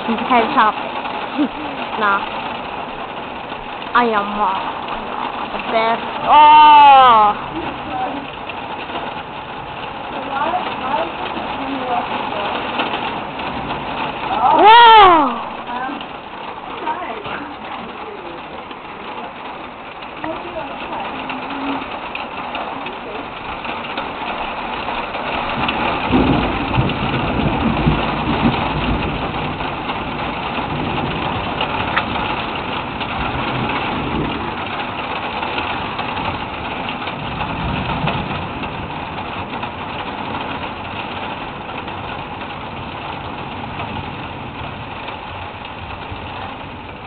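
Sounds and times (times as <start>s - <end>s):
rain rushing: 0.0s - 47.0s
rolling thunder: 0.0s - 47.0s.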